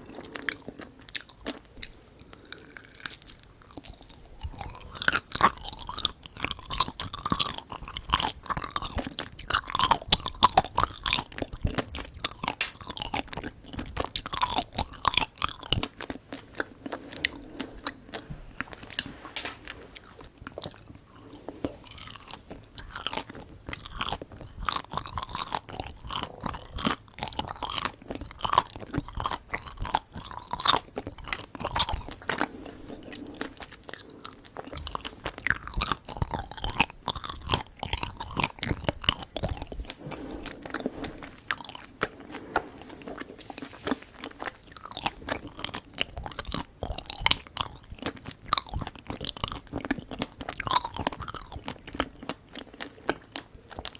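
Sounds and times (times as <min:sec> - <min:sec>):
close chewing with wet clicks: 0:00.0 - 0:53.9.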